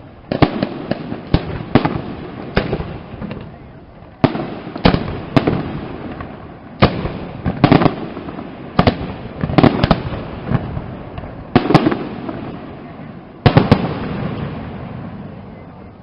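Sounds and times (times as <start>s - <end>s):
firework bangs: 0.0s - 15.6s.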